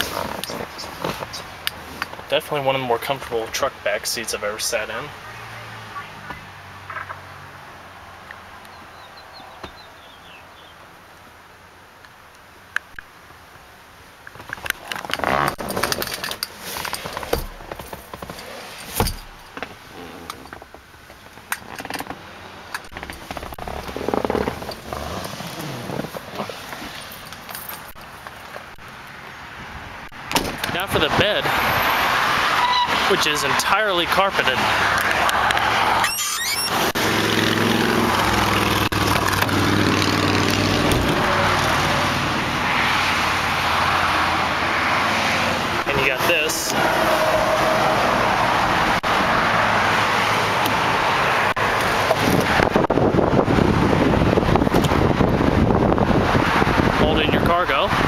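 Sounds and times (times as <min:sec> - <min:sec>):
vehicle engine hum: 0:03.6 - 0:58.0.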